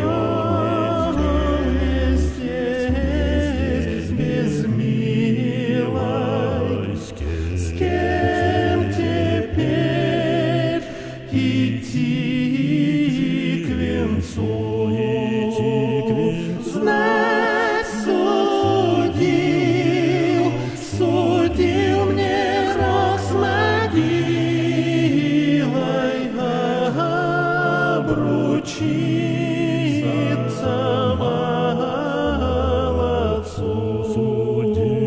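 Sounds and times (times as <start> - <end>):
choir singing folk song: 0.0 - 35.0.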